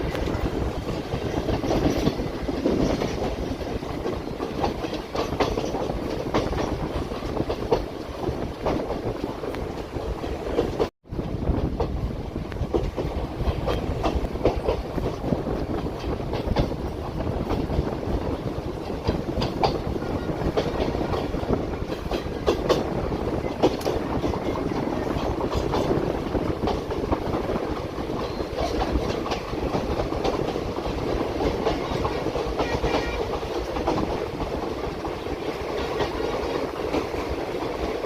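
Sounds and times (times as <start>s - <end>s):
train carriages rumbling and rattling: 0.0s - 38.0s
train wheels clicking over rail joints: 0.0s - 38.0s.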